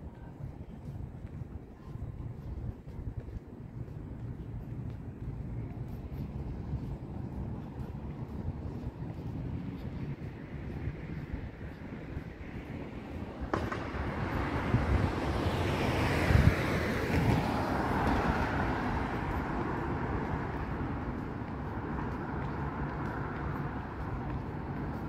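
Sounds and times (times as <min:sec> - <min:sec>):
traffic hum: 0:00.0 - 0:25.0.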